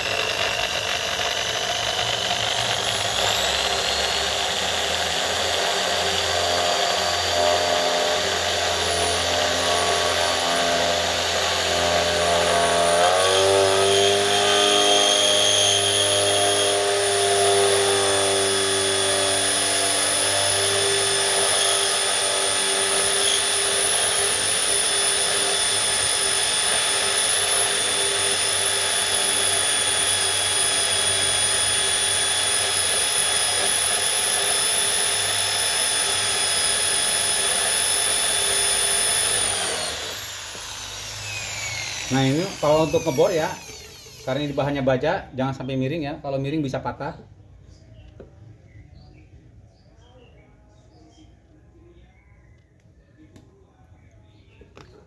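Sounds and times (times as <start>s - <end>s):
electric drill boring steel: 0.0s - 45.2s.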